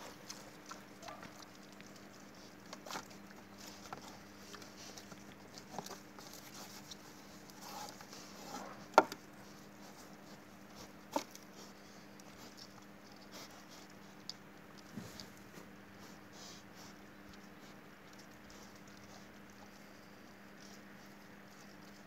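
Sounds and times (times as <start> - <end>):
wild boar rooting and chewing: 0.0 - 22.0.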